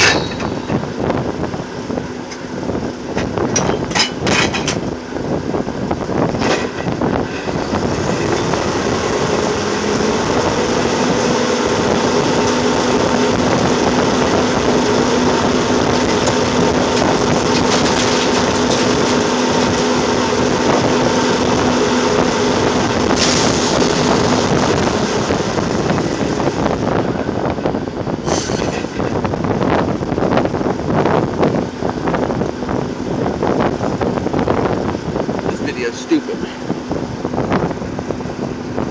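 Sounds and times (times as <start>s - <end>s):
machinery running loudly: 0.0s - 38.9s
steady hum: 0.0s - 38.9s.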